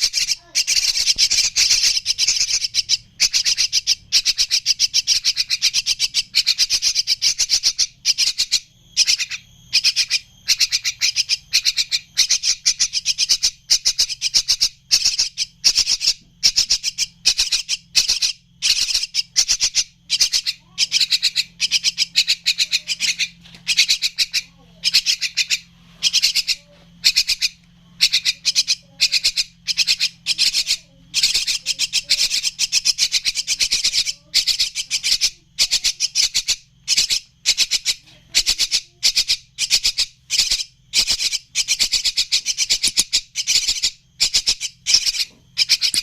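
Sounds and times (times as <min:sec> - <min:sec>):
birds chattering harshly: 0:00.0 - 0:46.0.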